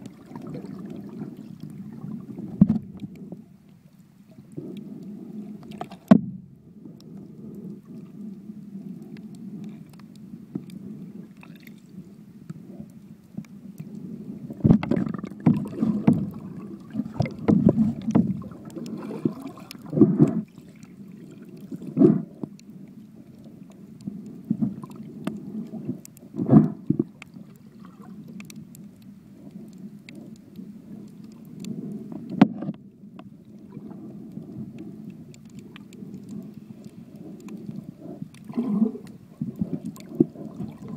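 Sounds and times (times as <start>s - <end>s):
muffled underwater rumble: 0.0s - 40.9s.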